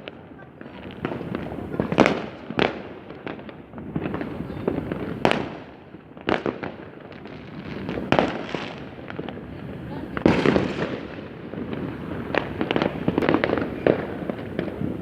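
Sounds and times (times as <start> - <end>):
fireworks sharp bangs: 0.0 - 15.0.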